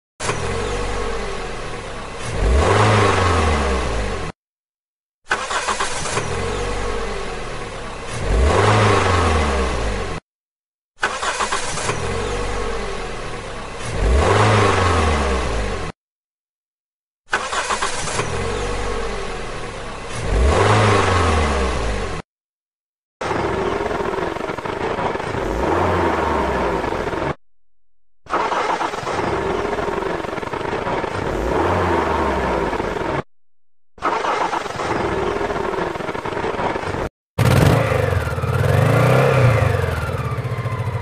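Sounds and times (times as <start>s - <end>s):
vehicle engine revving: 0.2s - 4.4s, 5.3s - 10.2s, 11.0s - 16.0s, 17.4s - 22.2s, 23.2s - 27.4s, 28.3s - 33.3s, 34.0s - 41.0s.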